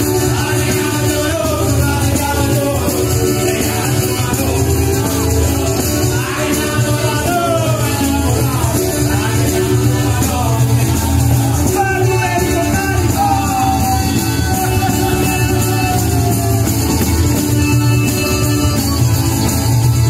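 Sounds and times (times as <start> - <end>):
person singing long notes: 0.0 - 19.2
acoustic guitar folk song: 0.0 - 20.0.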